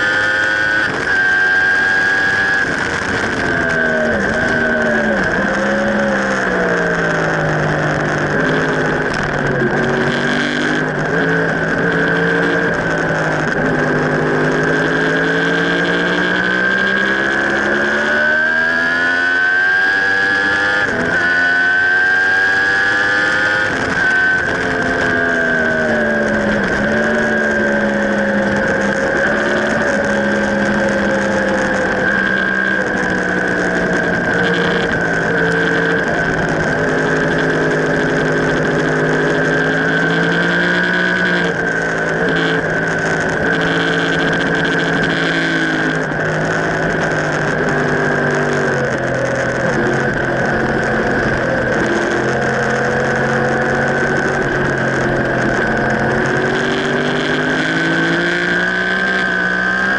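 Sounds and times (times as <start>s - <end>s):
high whine: 0.0s - 59.9s
motorcycle engine revving: 0.0s - 59.9s.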